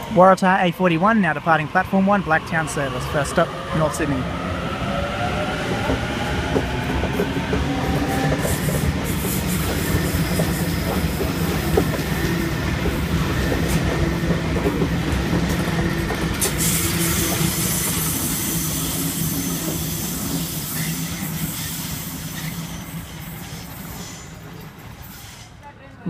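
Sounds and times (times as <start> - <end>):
traction equipment hum: 0.0 - 21.2
train wheels rumbling on rails: 0.0 - 26.0.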